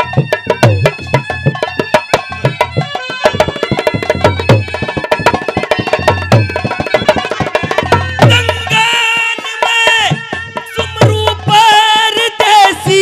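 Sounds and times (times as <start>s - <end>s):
fast hand-drum strokes: 0.0s - 13.0s.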